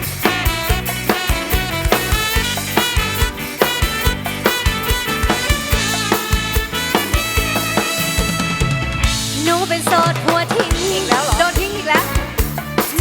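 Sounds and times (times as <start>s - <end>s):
drum kit beat: 0.0s - 13.0s
live band instrumental: 0.0s - 13.0s.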